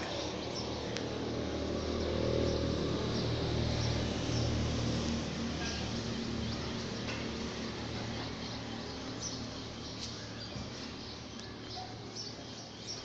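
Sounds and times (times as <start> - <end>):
low city hum: 0.0 - 13.0
small birds chirping: 0.0 - 13.0.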